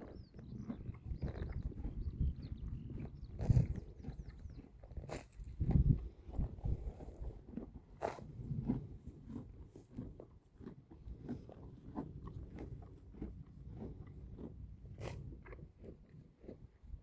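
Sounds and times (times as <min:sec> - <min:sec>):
horse chewing grass: 0:00.0 - 0:17.0.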